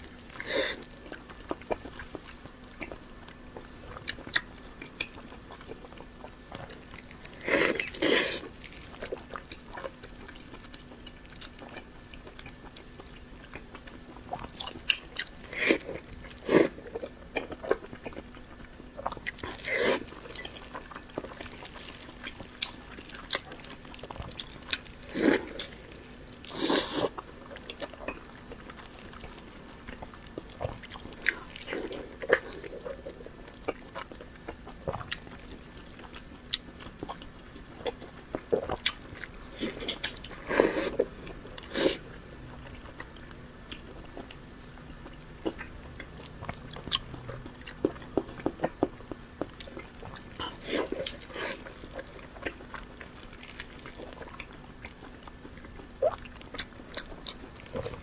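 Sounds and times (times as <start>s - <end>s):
biting and chewing meat: 0.0s - 58.0s
faint low hum: 0.0s - 58.0s.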